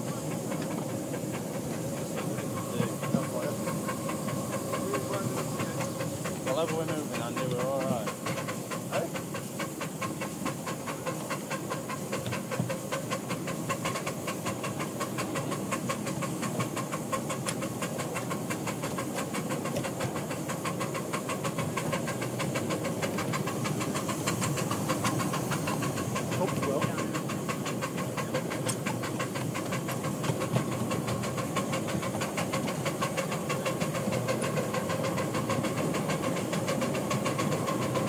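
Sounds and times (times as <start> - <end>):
steam hissing: 0.0 - 38.0
steam locomotive exhaust beating: 0.0 - 38.0.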